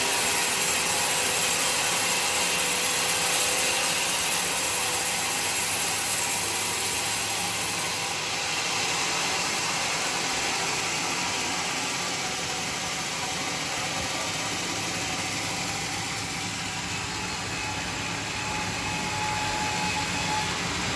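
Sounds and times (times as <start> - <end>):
band sawmill running: 0.0 - 20.9.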